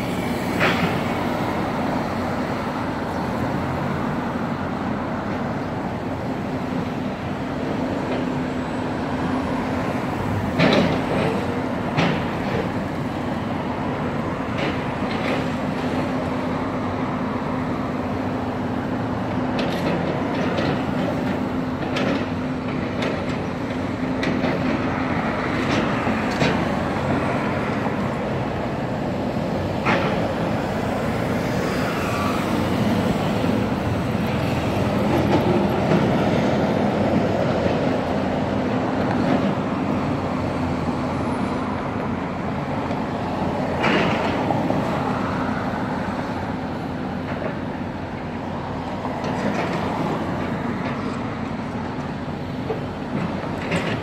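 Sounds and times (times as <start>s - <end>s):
bus going past: 0.0s - 54.0s
cars passing: 0.0s - 54.0s
engine hum: 0.0s - 54.0s.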